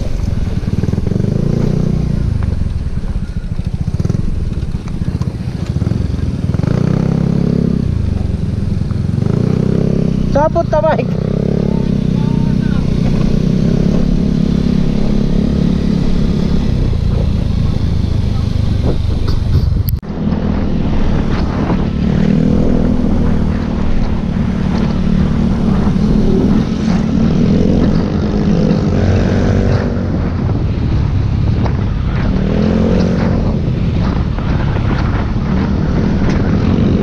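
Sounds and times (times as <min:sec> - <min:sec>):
motorcycle engine running: 0:00.0 - 0:37.0
wind rumble on microphone: 0:00.0 - 0:37.0.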